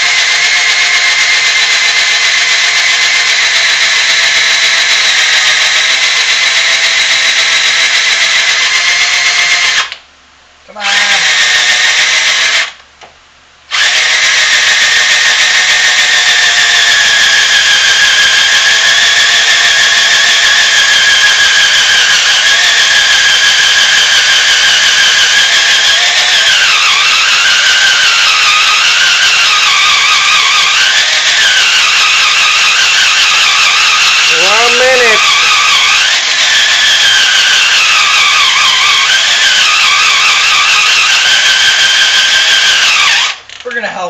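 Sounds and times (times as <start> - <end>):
cordless drill grinding into metal: 0.0 - 10.0, 13.7 - 43.7.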